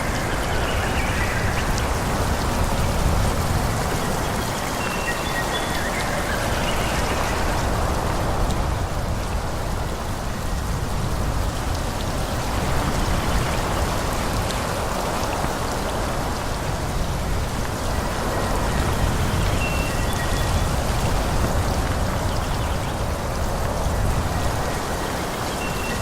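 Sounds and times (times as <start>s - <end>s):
wind rustling tree leaves: 0.0s - 26.0s.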